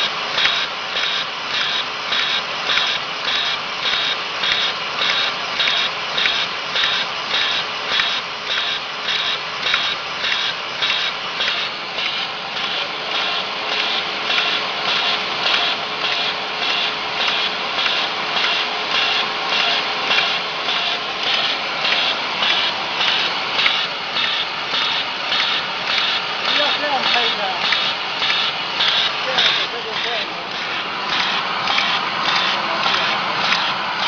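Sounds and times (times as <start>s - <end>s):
machine turret pulsing: 0.0s - 34.0s
steady mechanical hum: 0.0s - 34.0s.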